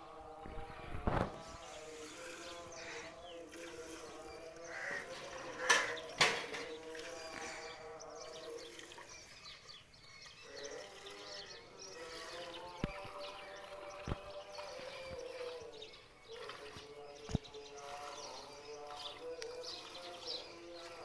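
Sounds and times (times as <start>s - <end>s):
milk squirting into steel pail: 1.2s - 9.8s, 10.5s - 21.0s.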